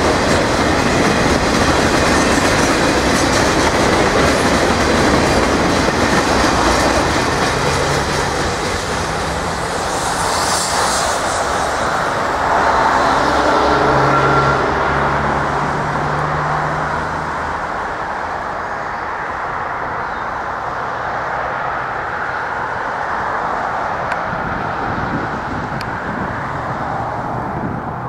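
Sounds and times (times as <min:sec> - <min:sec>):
freight train rolling past: 0:00.0 - 0:28.0
traffic noise: 0:00.0 - 0:28.0.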